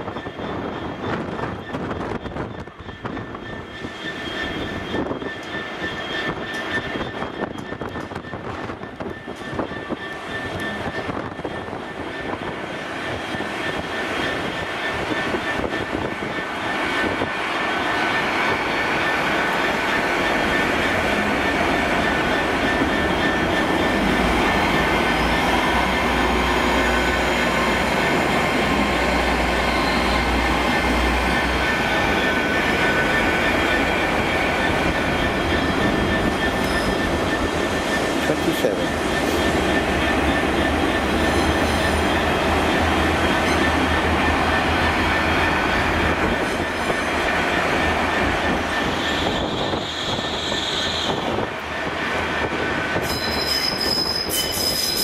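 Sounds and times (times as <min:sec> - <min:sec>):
train passing on tracks: 0:00.0 - 0:55.0.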